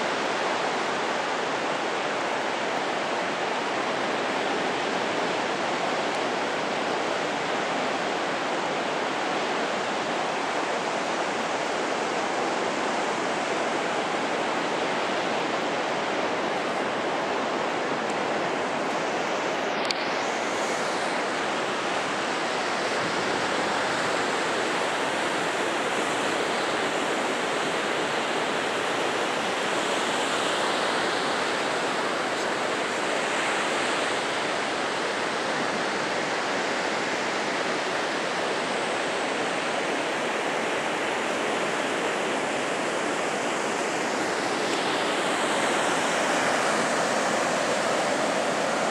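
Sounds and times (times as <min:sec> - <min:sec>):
heavy surf breaking: 0:00.0 - 0:48.9.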